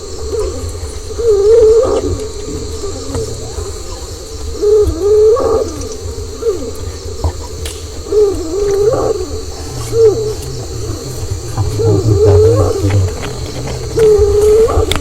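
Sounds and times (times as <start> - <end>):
low wavering hoot-like tone: 0.0 - 15.0.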